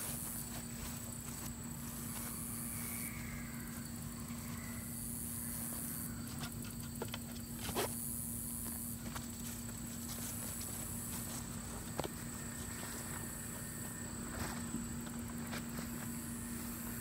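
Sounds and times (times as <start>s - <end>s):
insects buzzing: 0.0s - 17.0s
steady low hum: 0.0s - 17.0s.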